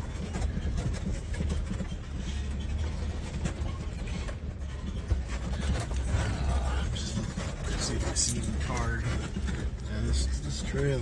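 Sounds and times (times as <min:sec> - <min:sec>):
knocks and rattles over rocks: 0:00.0 - 0:11.0
vehicle engine low rumble: 0:00.0 - 0:11.0.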